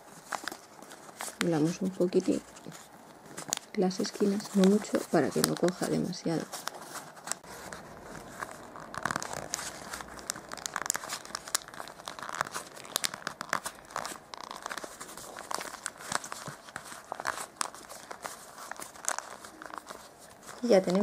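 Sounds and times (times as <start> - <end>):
glossy paper crinkling: 0.0 - 21.0.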